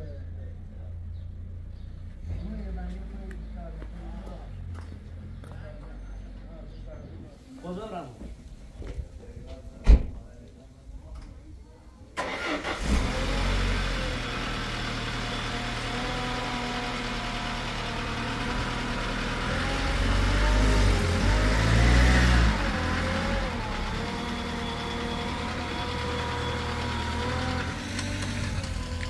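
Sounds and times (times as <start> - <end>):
car engine idling and revving: 0.0 - 7.2, 12.2 - 29.0.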